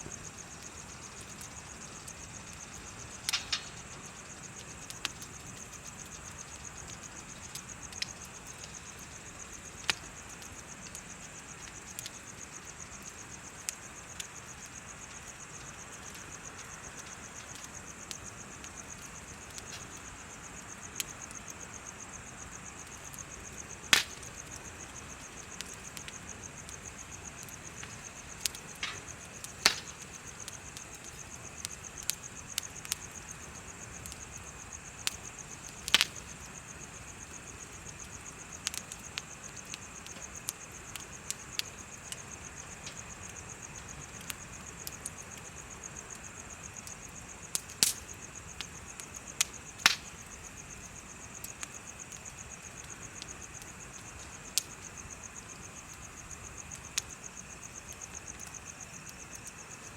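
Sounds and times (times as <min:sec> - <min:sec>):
bonfire crackling and popping: 0:00.0 - 0:59.9
insects trilling: 0:00.0 - 0:59.9.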